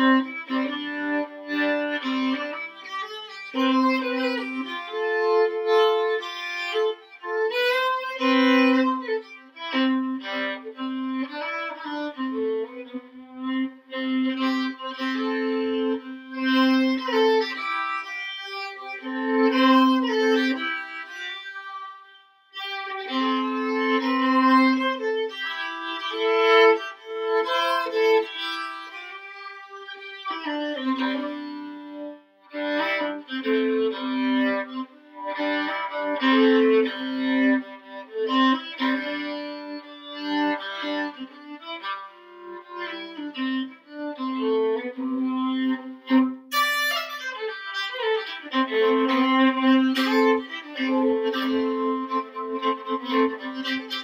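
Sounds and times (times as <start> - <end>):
solo violin fiddle tune: 0.0 - 54.0.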